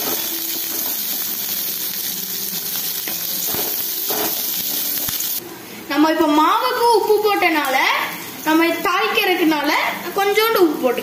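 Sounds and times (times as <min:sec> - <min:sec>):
food sizzling in hot oil: 0:00.0 - 0:05.4, 0:06.3 - 0:11.0.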